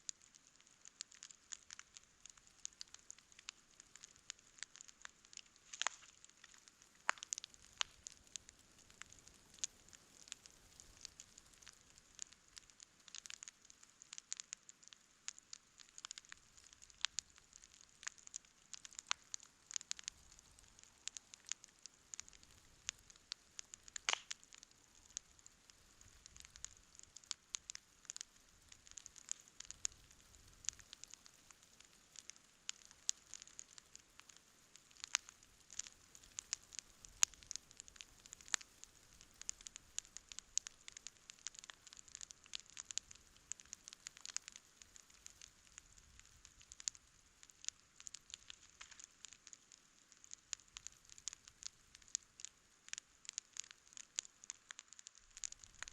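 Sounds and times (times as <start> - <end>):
campfire crackling and popping: 0.0 - 55.9
faint hiss: 0.0 - 55.9.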